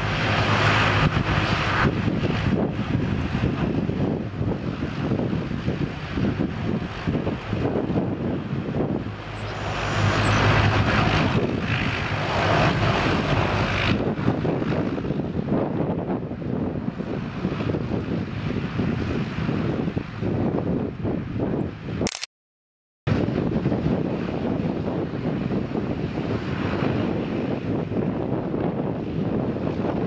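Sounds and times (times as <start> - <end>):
jet engines of taxiing aircraft: 0.0 - 22.2, 23.1 - 30.0.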